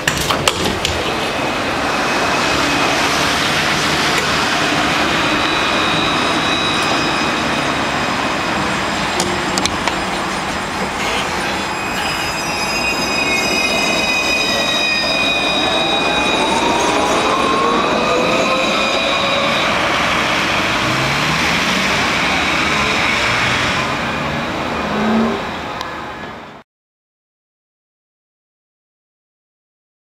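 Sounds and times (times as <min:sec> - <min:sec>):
tram electric whine: 0:00.0 - 0:26.5.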